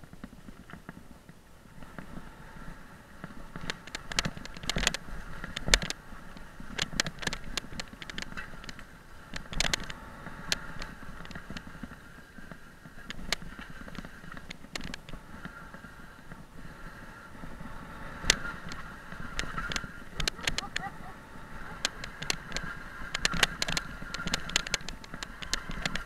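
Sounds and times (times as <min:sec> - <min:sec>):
faint motorcycle engine: 0:00.0 - 0:26.0
motorcycle rattling over bumps: 0:00.0 - 0:26.0.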